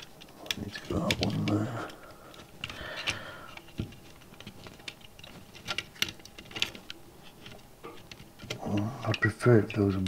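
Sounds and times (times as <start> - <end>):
light clicks and taps: 0.0 - 10.0
soft rustle: 0.0 - 10.0.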